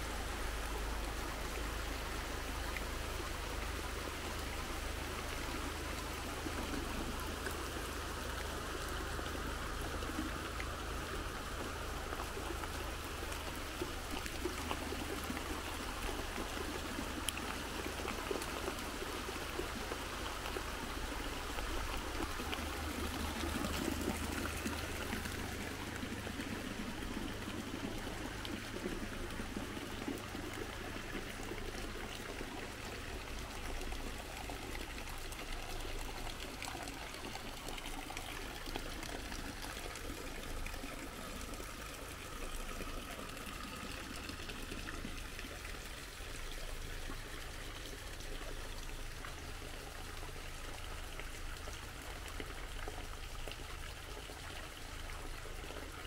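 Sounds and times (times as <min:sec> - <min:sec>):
runoff water pouring and trickling: 0:00.0 - 0:56.0
steady rain: 0:00.0 - 0:56.0.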